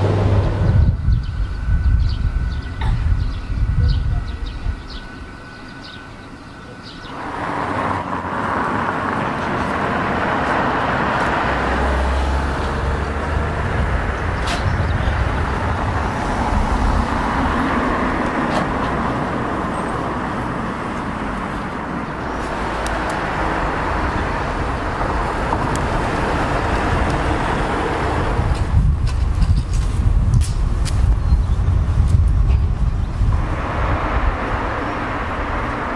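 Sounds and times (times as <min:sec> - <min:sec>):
vehicle rushing and rumbling: 0:00.0 - 0:35.9.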